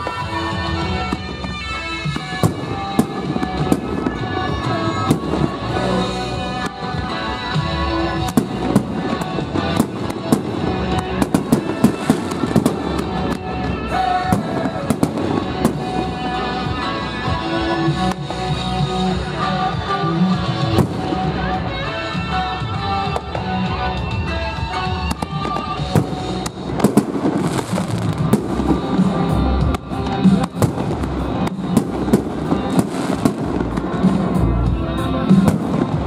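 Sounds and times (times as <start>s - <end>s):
fireworks bursting and crackling: 0.0s - 36.0s
music: 0.0s - 36.0s.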